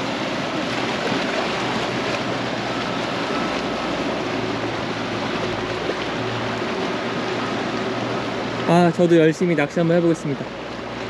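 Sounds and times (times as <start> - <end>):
outboard engine humming: 0.0 - 11.0
rushing water: 0.0 - 11.0.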